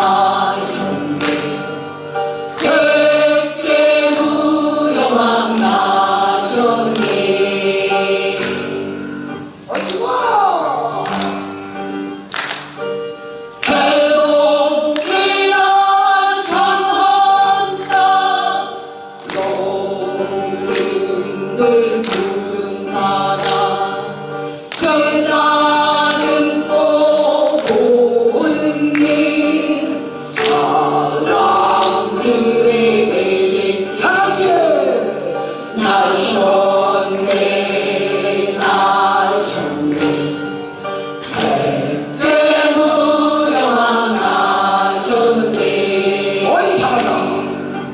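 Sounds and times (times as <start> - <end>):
chorus singing: 0.0 - 47.9.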